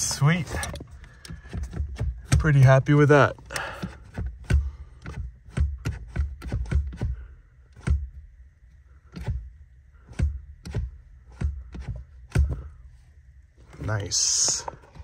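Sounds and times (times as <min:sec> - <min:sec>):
accelerator pedal clicking and knocking: 0:00.0 - 0:08.4, 0:09.1 - 0:12.8.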